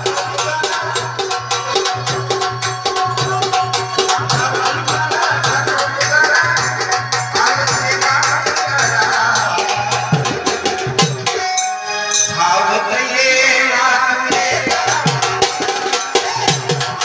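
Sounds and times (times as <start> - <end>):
jingling percussion: 0.0 - 12.8, 14.3 - 17.0
person singing: 0.0 - 17.0.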